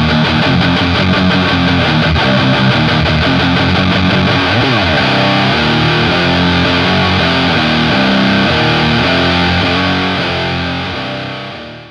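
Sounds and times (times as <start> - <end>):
distorted electric guitar chords: 0.0 - 11.9
guitar slide down in pitch: 0.0 - 11.9.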